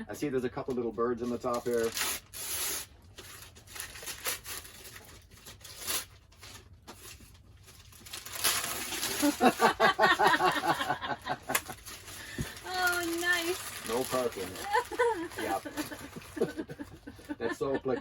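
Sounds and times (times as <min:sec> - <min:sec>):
wrapping paper tearing: 0:01.2 - 0:16.7.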